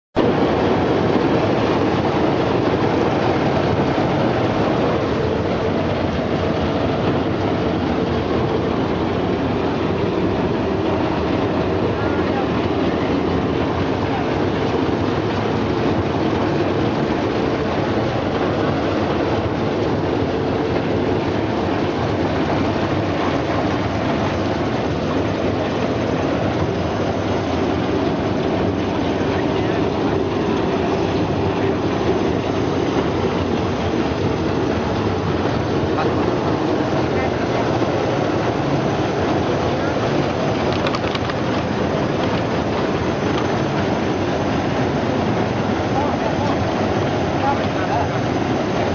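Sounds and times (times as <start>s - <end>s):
washing machine running: 0.2s - 48.9s.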